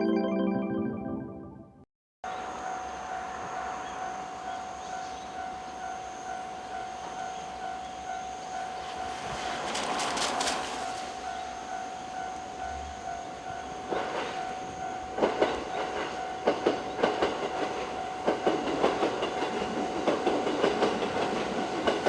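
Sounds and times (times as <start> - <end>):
electric train approaching: 2.3 - 22.0.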